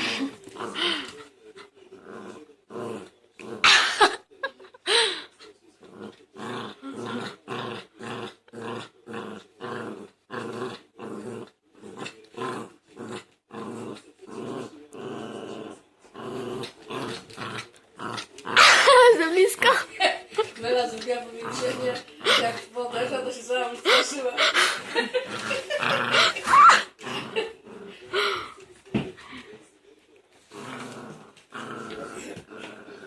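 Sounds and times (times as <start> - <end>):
puppy growling: 0.0 - 3.7, 5.8 - 28.6, 30.4 - 33.0.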